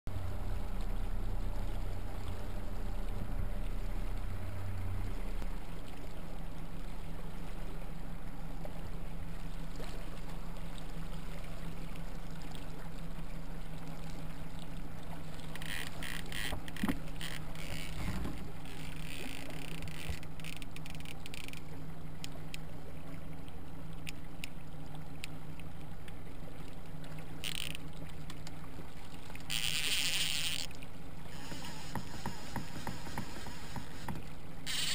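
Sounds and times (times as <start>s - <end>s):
boat motor running: 0.1s - 34.9s.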